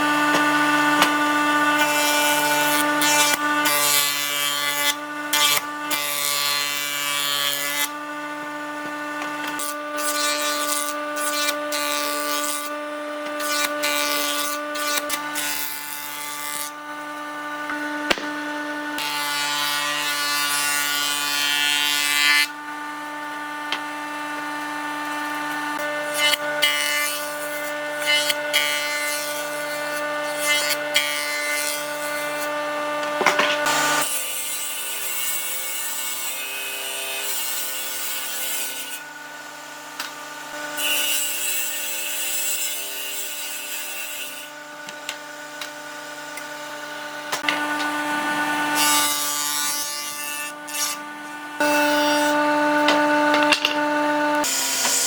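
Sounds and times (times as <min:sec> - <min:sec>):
power tool cutting wood: 0:00.0 - 0:55.0.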